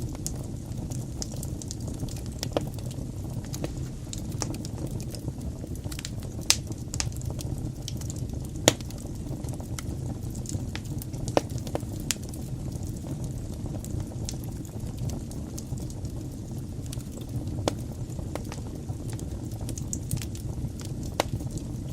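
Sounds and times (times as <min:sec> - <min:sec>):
fire crackling in fireplace: 0:00.0 - 0:21.9.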